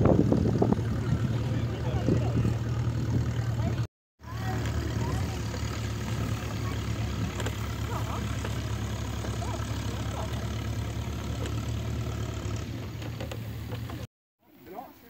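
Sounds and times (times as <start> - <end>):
vehicle engine idling: 0.0 - 14.1.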